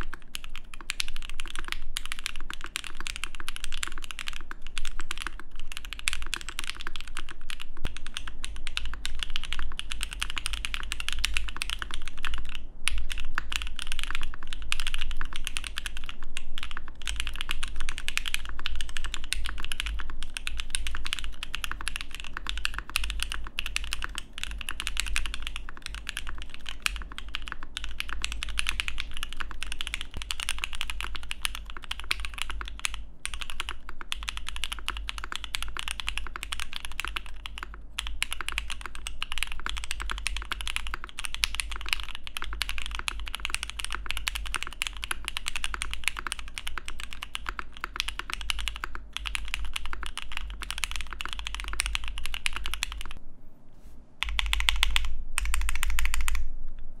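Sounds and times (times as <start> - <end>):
fast mechanical keyboard typing: 0.0 - 53.2, 54.2 - 56.5.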